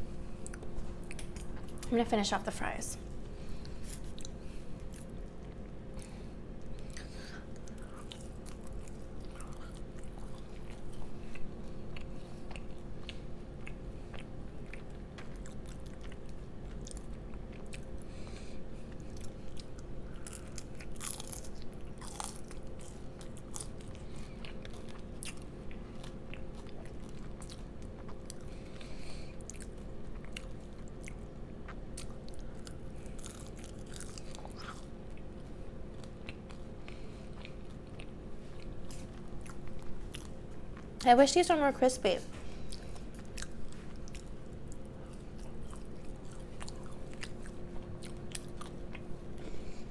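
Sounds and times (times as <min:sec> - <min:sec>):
chewing french fries: 0:00.0 - 0:41.5, 0:42.3 - 0:49.9
electrical hum: 0:00.0 - 0:49.9.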